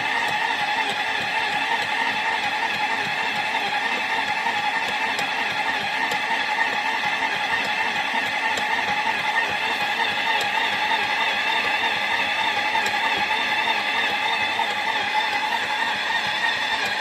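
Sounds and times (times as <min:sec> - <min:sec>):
mixer motor whine: 0:00.0 - 0:17.0.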